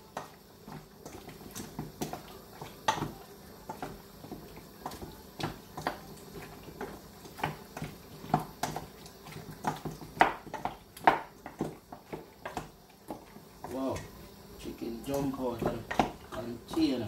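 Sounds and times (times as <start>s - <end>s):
wet squelches of mixing chicken: 0.0s - 17.0s.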